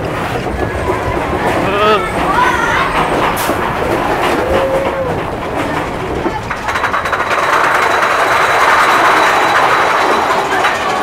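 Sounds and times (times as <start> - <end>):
roller coaster rumbling and clattering: 0.0 - 11.0.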